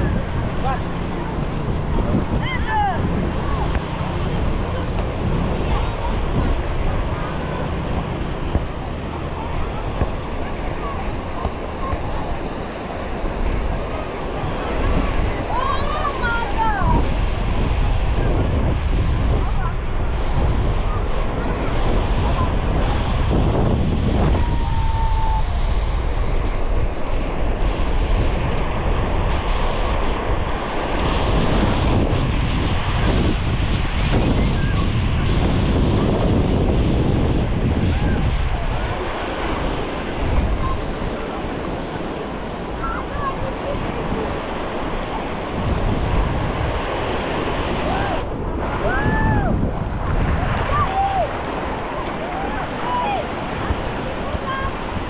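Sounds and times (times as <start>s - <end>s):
small waves breaking on sand: 0.0s - 55.0s
wind rumbling on microphone: 0.0s - 55.0s.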